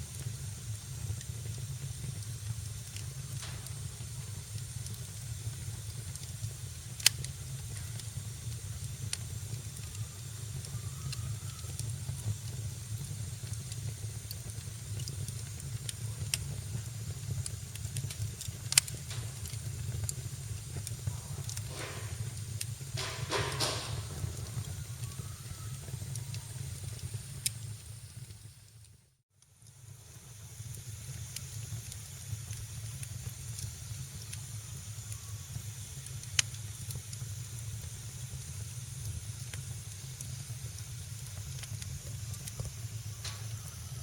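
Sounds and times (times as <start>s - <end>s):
fire popping sharply: 0.0s - 28.6s, 29.8s - 44.0s
low rumble and hiss: 0.0s - 44.0s
wood fire crackling: 0.0s - 44.0s.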